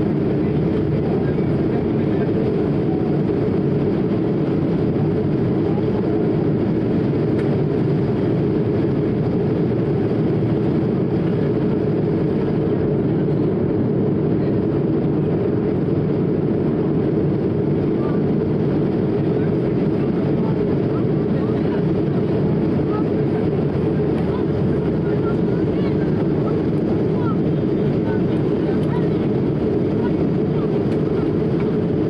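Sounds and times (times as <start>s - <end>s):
airflow over fuselage: 0.0s - 32.0s
jet engines low rumble: 0.0s - 32.0s.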